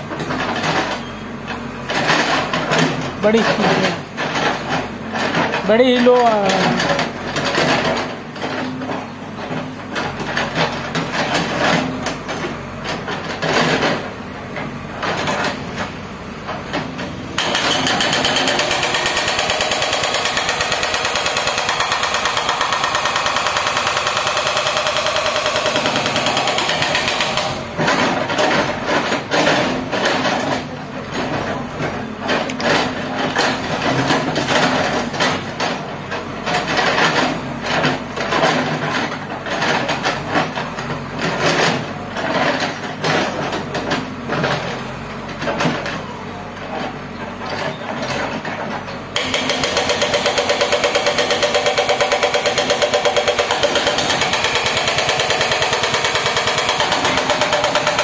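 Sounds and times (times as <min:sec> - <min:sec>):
diesel engine running: 0:00.0 - 0:58.0
hydraulic rock breaker hammering: 0:00.0 - 0:58.0.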